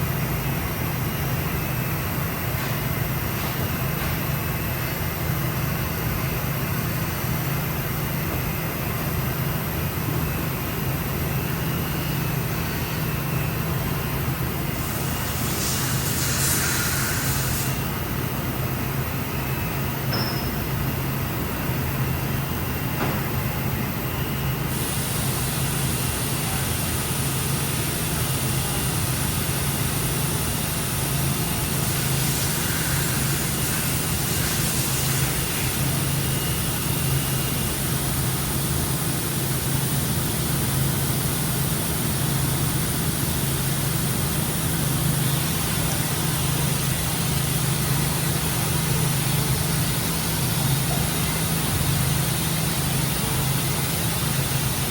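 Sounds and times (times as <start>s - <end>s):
machining center humming: 0.0s - 54.9s.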